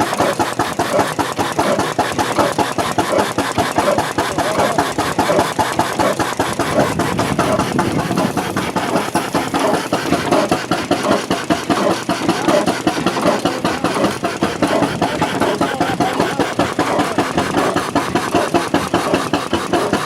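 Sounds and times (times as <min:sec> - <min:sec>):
stationary engine idling with knocks: 0:00.0 - 0:20.0.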